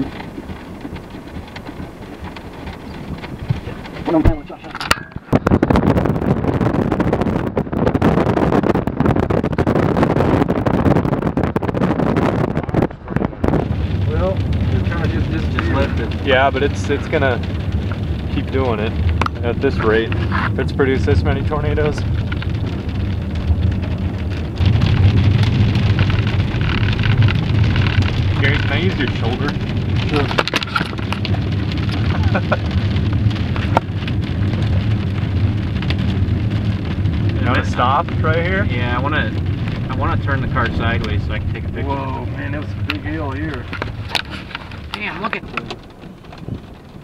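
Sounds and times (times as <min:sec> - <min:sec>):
low rumble: 0:00.0 - 0:47.0
rain on car roof: 0:00.0 - 0:47.0
vehicle road noise: 0:00.0 - 0:47.0
wind buffeting microphone: 0:00.0 - 0:47.0.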